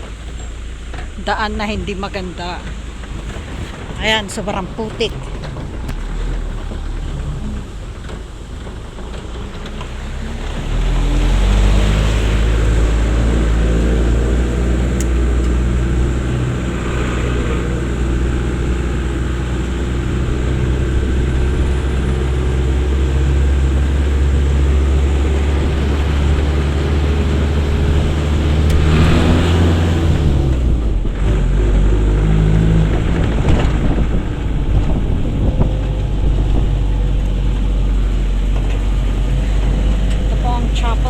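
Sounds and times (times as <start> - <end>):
vehicle engine running slowly: 0.0 - 41.0.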